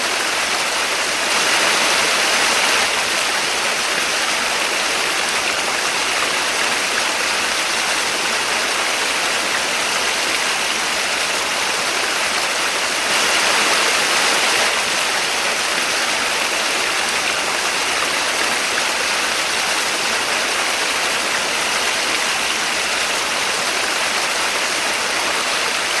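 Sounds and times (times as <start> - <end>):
waterfall splashing: 0.0 - 26.0.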